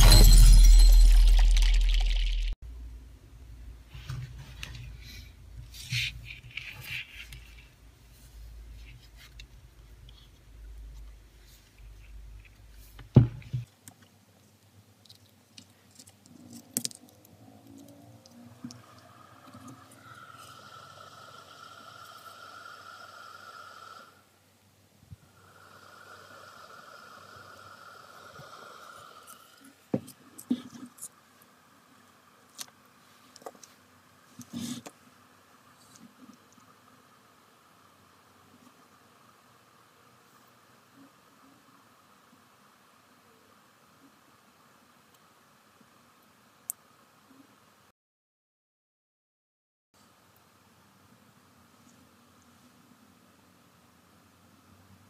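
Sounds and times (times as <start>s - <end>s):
small fan whining: 3.4s - 47.9s.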